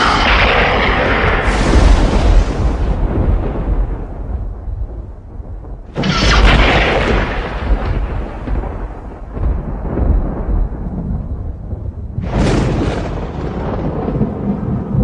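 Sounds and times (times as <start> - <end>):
low rumble of thunder: 0.0 - 15.0
sharp thunderclap: 0.0 - 15.0.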